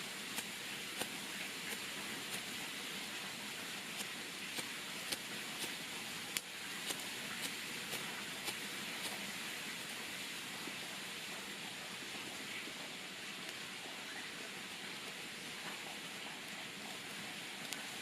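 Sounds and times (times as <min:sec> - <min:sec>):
campfire crackling: 0:00.0 - 0:11.6, 0:13.3 - 0:14.0, 0:14.7 - 0:18.0.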